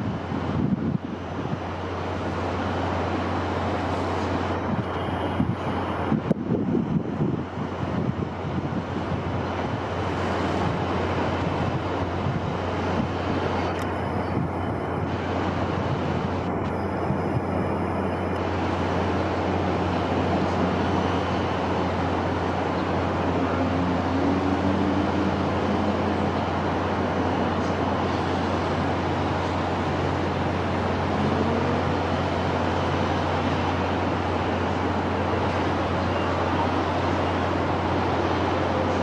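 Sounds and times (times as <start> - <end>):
rushing wind: 0.0 - 39.0.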